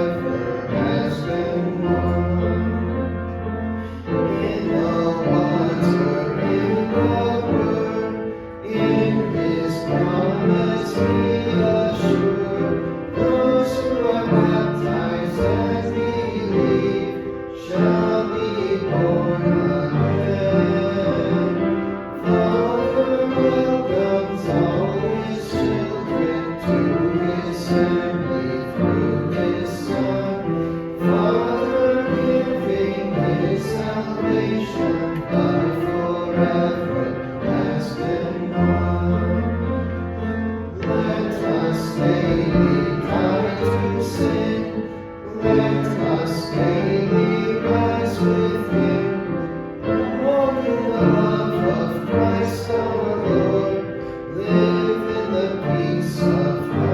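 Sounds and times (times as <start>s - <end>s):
instrumental accompaniment: 0.0s - 56.9s
voices singing a hymn: 0.0s - 56.9s.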